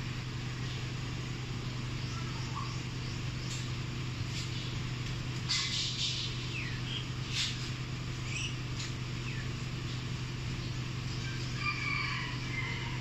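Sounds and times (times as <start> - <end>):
low mechanical hum: 0.0 - 13.0
small birds chirping: 0.3 - 13.0.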